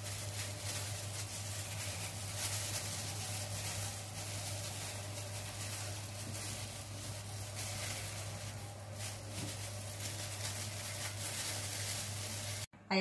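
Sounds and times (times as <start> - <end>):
plastic gloves crinkling: 0.0 - 12.7.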